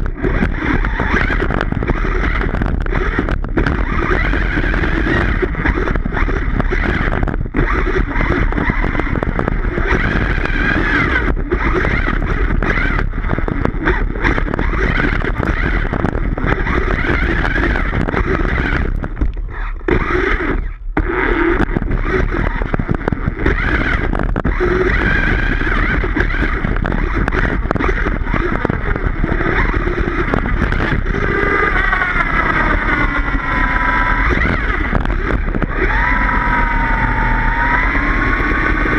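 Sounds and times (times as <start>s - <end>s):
electric toy car motor whine: 0.0s - 38.9s.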